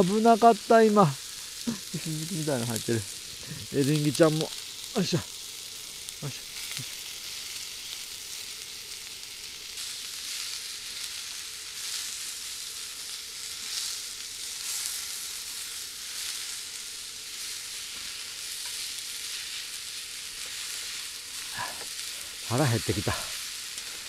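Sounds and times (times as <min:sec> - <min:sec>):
vegetables sizzling in frying pan: 0:00.0 - 0:24.0.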